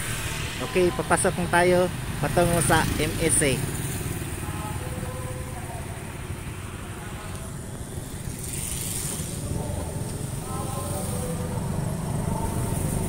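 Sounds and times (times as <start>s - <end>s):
motorcycle engine idling: 0.0s - 13.0s
street traffic passing: 0.0s - 13.0s.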